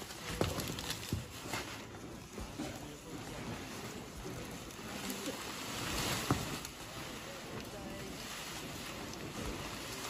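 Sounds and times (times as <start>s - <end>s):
rustling of leafy greens: 0.0s - 10.0s.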